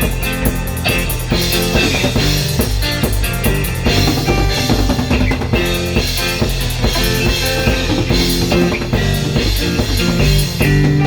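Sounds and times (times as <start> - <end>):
drum kit: 0.0 - 11.0
electric guitar: 0.0 - 11.0
instrumental rock music: 0.0 - 11.0.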